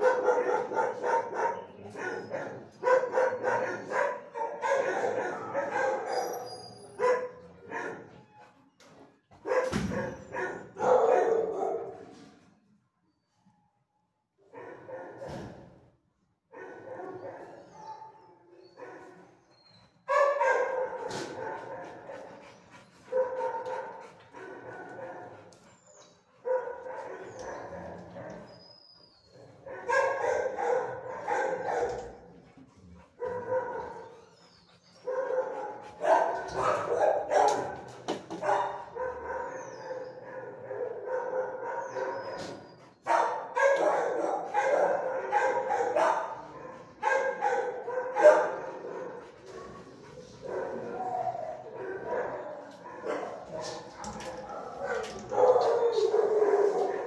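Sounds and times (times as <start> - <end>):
dogs barking: 0.0 - 8.2, 9.3 - 12.2, 14.5 - 15.6, 16.5 - 19.5, 20.1 - 57.0.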